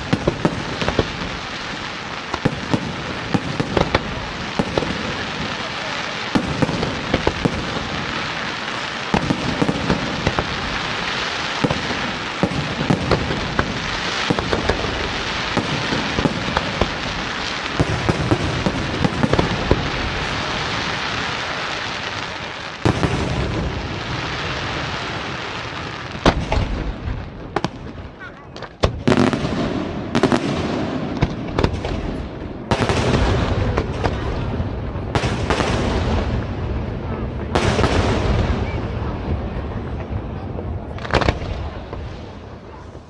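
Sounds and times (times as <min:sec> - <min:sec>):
sharp firework bangs: 0:00.0 - 0:39.4, 0:40.9 - 0:42.4
fireworks crackling: 0:00.0 - 0:43.0.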